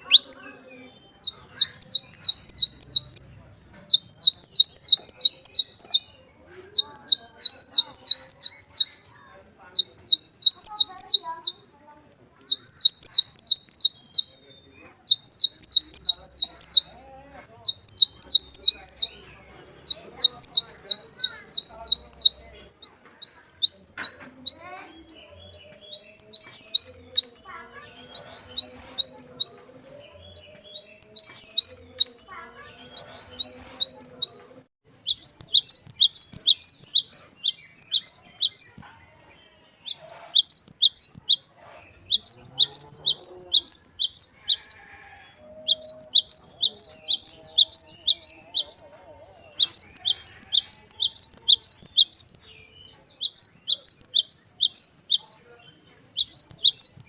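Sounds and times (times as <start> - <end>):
bird singing rapid high notes: 0.0 - 9.1, 9.8 - 11.7, 12.4 - 17.0, 17.6 - 38.9, 39.6 - 57.0.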